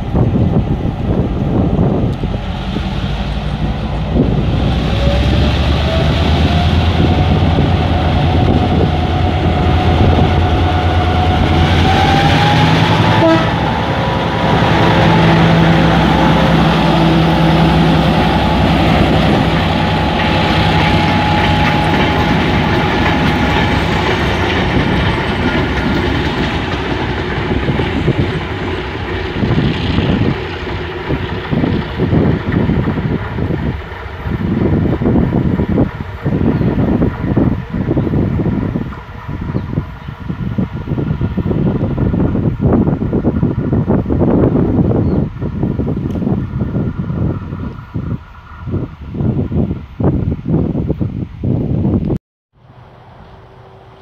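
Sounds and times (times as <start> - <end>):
diesel train passing: 0.0 - 51.9, 52.6 - 54.0.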